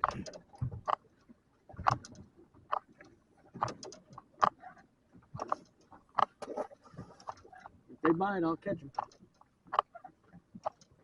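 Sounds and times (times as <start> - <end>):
fishing gear clicking and knocking: 0.0 - 7.7, 8.8 - 11.0.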